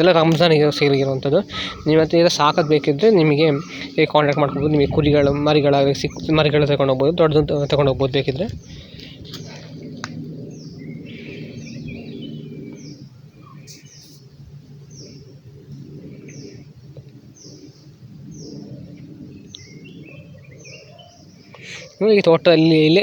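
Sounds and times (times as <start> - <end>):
low steady hum: 0.0 - 20.6
birds chirping: 0.0 - 23.0.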